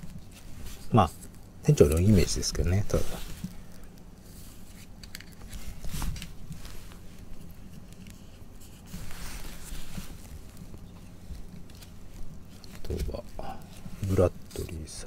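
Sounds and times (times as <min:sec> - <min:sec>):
plastic rustling: 0:00.0 - 0:15.0.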